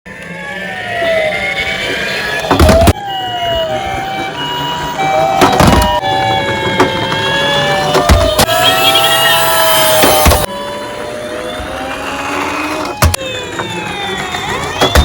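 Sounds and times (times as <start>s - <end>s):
toy electronic sirens wailing: 0.1s - 15.0s.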